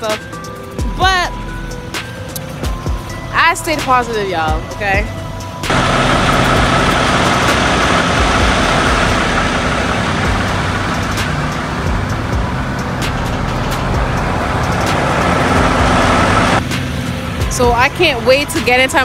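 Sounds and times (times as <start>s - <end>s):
passing truck traffic: 0.0s - 19.0s
diesel truck engine running: 1.4s - 19.0s.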